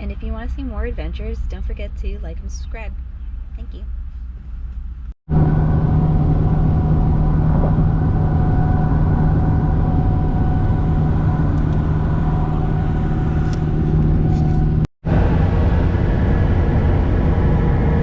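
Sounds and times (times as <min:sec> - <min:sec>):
road noise: 0:02.9 - 0:18.0
car engine drone: 0:03.0 - 0:18.0.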